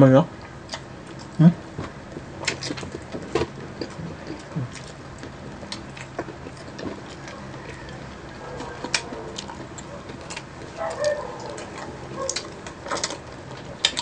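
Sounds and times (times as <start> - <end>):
chewing crispy fried chicken: 0.3 - 14.0.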